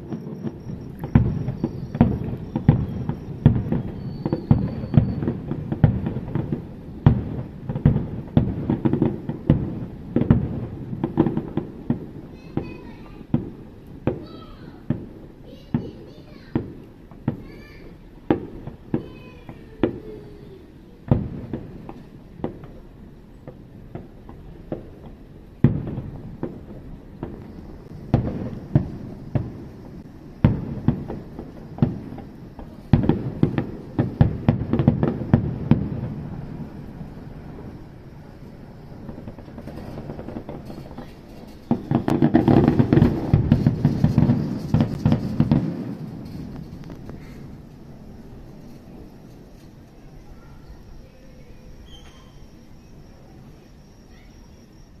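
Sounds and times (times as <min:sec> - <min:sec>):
fireworks bangs: 0:00.0 - 0:55.0
fireworks crackling: 0:00.0 - 0:55.0.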